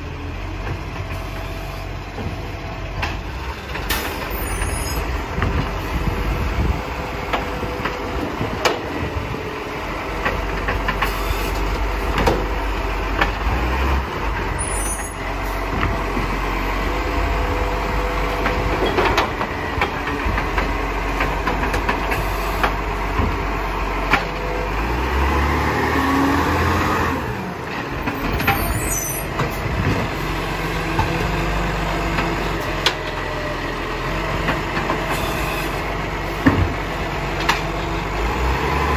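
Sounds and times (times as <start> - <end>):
garbage truck diesel engine: 0.0 - 38.9.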